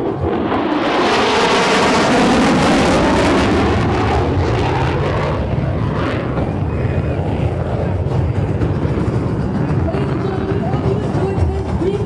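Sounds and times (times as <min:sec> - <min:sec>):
fighter jet roaring past: 0:00.0 - 0:11.2.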